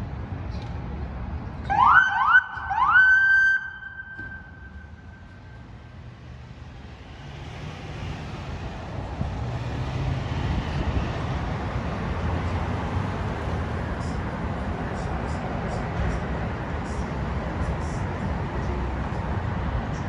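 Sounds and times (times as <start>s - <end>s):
street traffic: 0.0s - 20.0s
fire truck engine rumbling: 1.2s - 20.0s.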